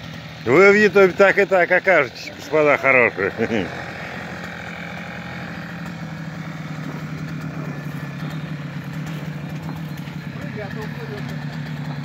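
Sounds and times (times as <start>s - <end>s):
brush cutter engine idling: 0.0s - 12.0s.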